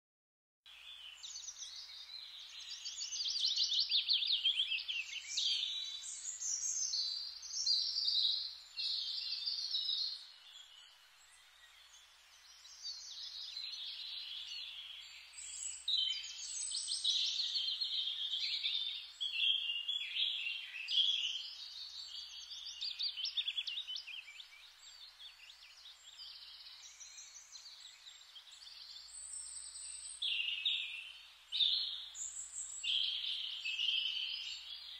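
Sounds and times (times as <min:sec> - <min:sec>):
birds chirping and trilling: 0:00.7 - 0:34.9.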